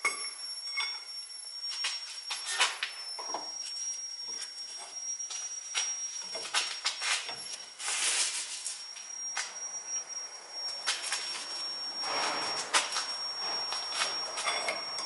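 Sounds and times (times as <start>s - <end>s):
faint high-pitched tone: 0.0s - 15.0s.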